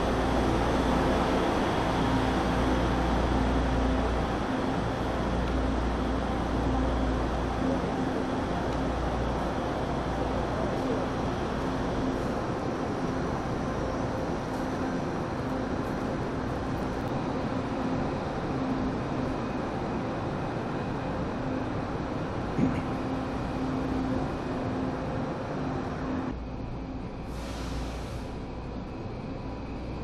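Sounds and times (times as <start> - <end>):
standing train drone: 0.0 - 30.0.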